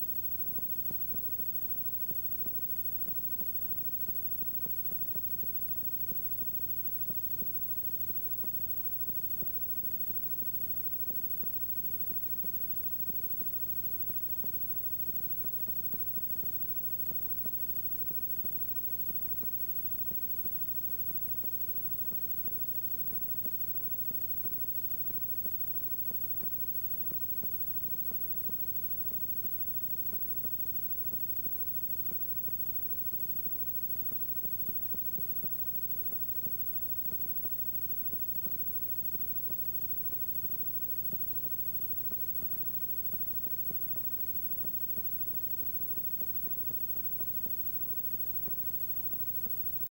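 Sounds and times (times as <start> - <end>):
electrical hum and buzz: 0.0 - 49.9.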